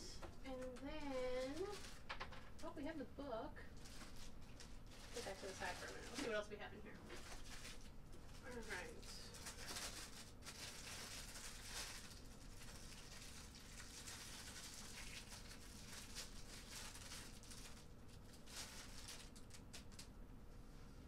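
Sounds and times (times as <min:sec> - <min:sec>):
plastic packaging crinkling: 0:00.7 - 0:02.7, 0:03.7 - 0:20.2.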